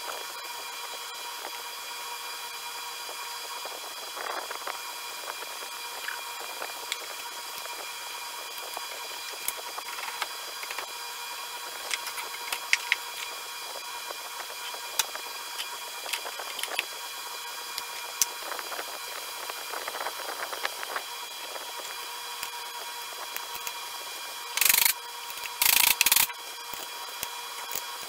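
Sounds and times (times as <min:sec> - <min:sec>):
hum of shop equipment: 0:00.0 - 0:28.0.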